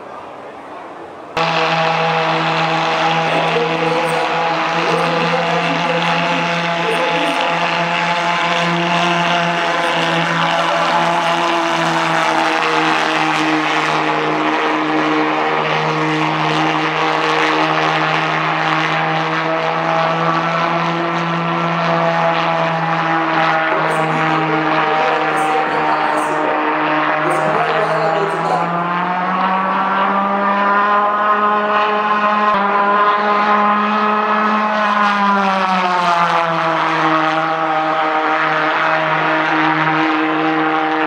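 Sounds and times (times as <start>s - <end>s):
model jet engine buzzing: 1.4s - 41.0s.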